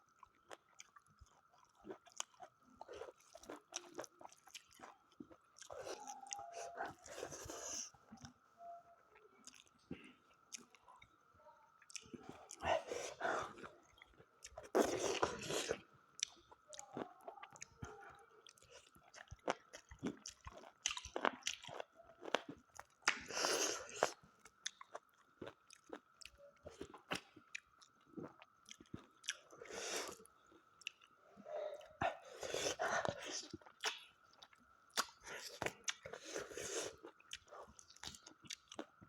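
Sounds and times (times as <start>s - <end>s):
person chewing food: 0.0s - 8.4s, 9.2s - 39.0s.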